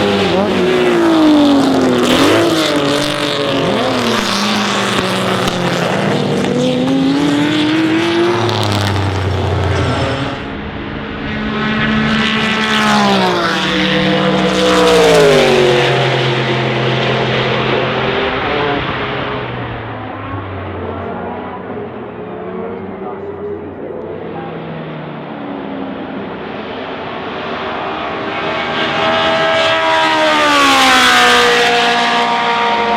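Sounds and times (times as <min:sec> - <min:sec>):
racing car engines revving: 0:00.0 - 0:32.9
racing car passing by: 0:00.0 - 0:32.9.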